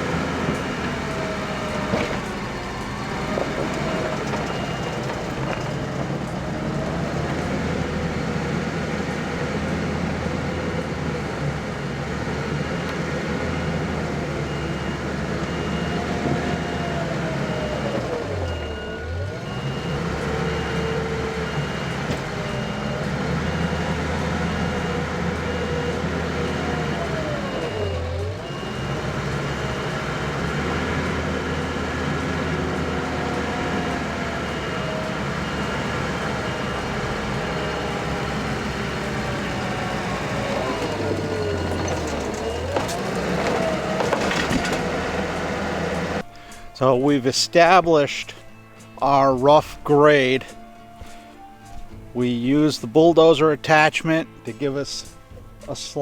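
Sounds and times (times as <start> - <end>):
reversing alarm beeping: 0.0 - 56.0
skid steer engine running hard: 0.0 - 56.0.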